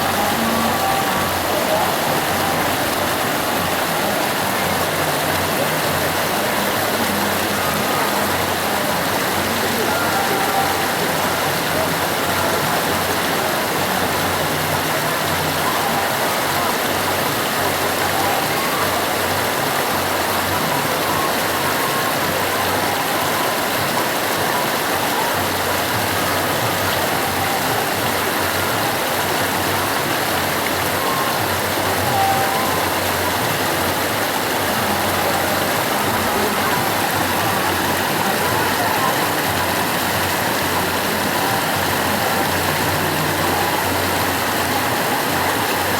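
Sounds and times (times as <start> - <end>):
river rushing: 0.0 - 45.9.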